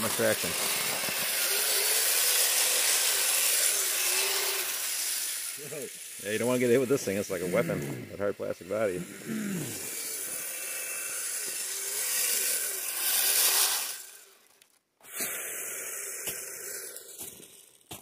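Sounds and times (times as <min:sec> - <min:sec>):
toy vehicle motor whining: 0:00.0 - 0:18.0.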